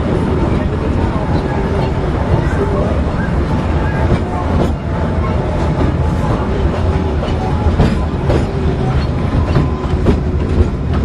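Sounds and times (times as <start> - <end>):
small train rumbling: 0.0 - 11.0
wheels clicking on rails: 0.0 - 11.0.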